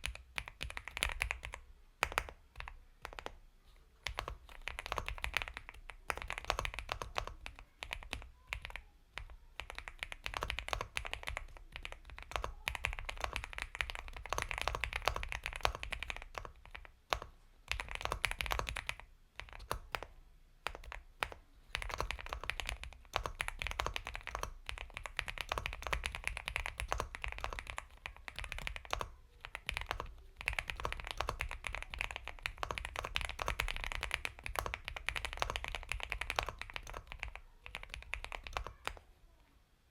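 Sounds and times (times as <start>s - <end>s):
fast typing on mechanical keyboard: 0.0s - 3.4s, 4.0s - 39.0s.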